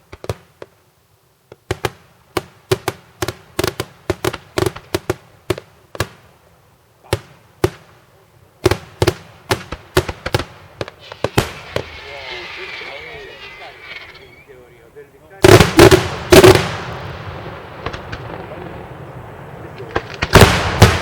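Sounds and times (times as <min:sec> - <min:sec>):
fireworks bursting: 0:00.0 - 0:00.8, 0:01.5 - 0:21.0.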